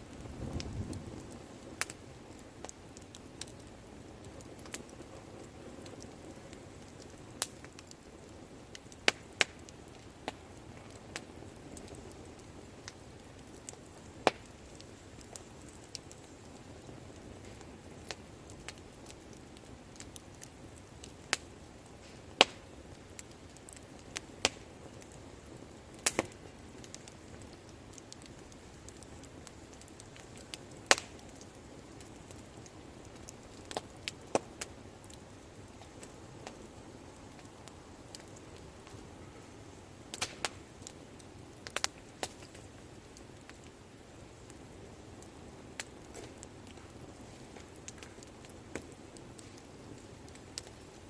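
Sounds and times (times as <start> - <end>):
bonfire pops and snaps: 0.0 - 51.0
low hiss of burning: 0.0 - 51.0.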